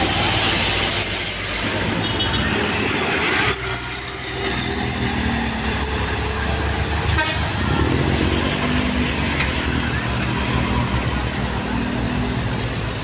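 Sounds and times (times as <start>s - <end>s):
heavy vehicle engines running: 0.0s - 13.0s
road traffic: 0.0s - 13.0s.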